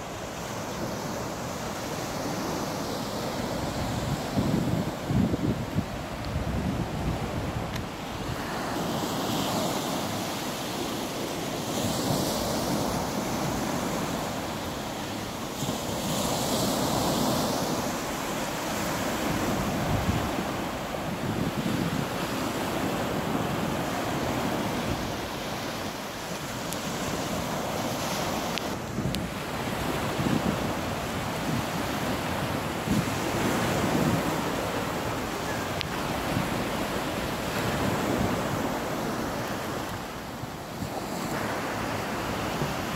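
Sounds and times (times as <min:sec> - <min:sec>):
waves breaking on beach: 0:00.0 - 0:42.9
wind buffeting microphone: 0:03.2 - 0:10.7, 0:11.6 - 0:42.9.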